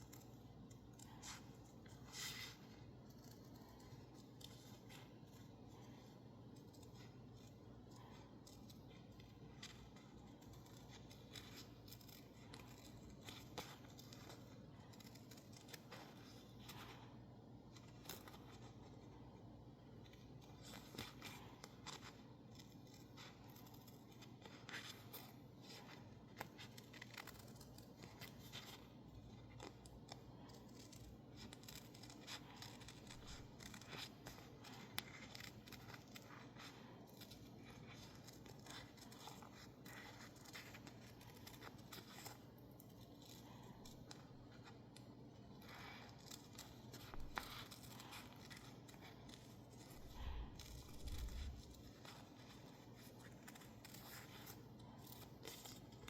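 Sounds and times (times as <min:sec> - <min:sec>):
scissors snipping paper: 0:00.0 - 0:56.0.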